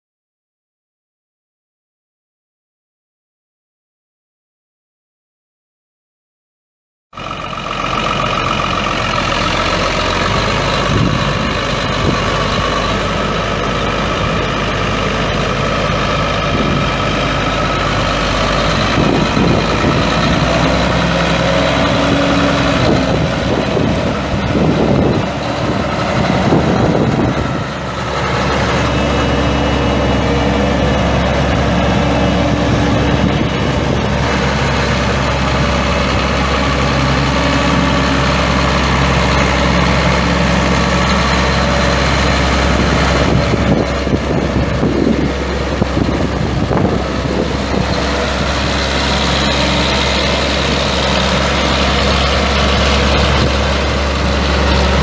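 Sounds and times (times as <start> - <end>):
tractor diesel engine running: 7.2 - 55.0.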